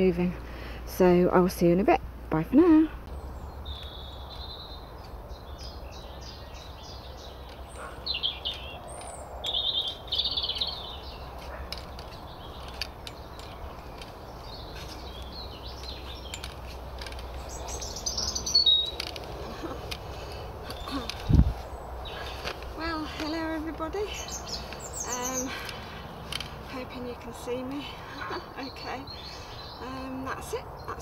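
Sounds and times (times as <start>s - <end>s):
low steady background noise: 0.0s - 31.0s
songbirds singing: 0.0s - 31.0s.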